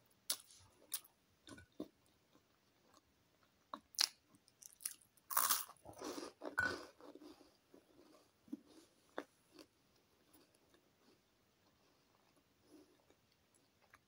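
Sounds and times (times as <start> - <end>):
crunching and chewing snack: 0.3 - 14.0.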